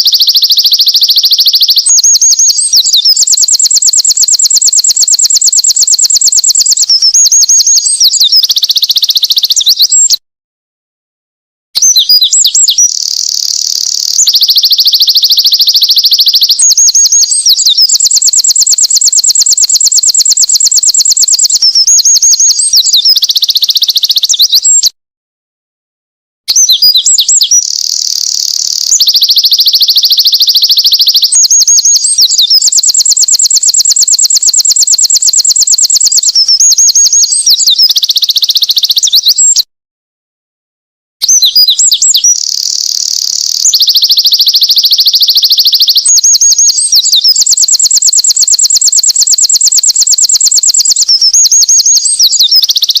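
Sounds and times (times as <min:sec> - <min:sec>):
wren singing rapid trills: 0:00.0 - 0:10.2, 0:11.8 - 0:24.9, 0:26.5 - 0:39.6, 0:41.2 - 0:53.0.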